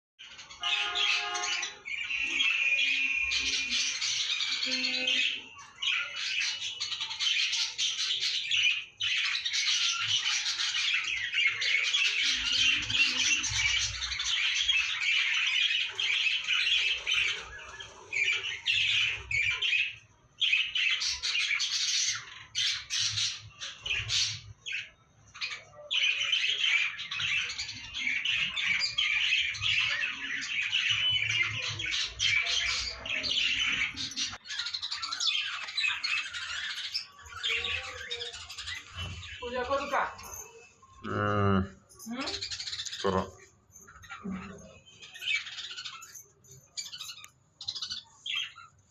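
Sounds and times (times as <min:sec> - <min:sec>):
lovebirds chattering shrill calls: 0:00.2 - 0:48.9.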